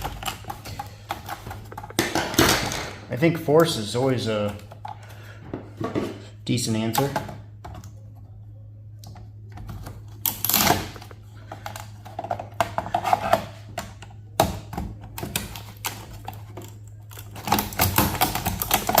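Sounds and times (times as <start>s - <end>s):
metal and plastic parts rattling: 0.0s - 7.9s, 9.5s - 19.0s
steady low hum: 0.0s - 19.0s.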